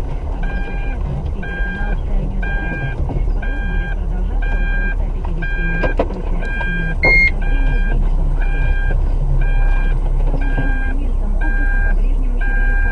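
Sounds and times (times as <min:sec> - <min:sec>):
low rumble: 0:00.0 - 0:12.9
electronic alarm beeping: 0:00.4 - 0:12.9.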